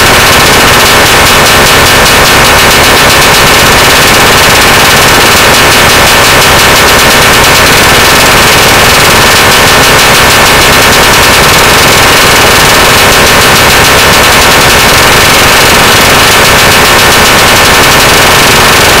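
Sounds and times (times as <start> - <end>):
harsh distorted noise music: 0.0 - 19.0.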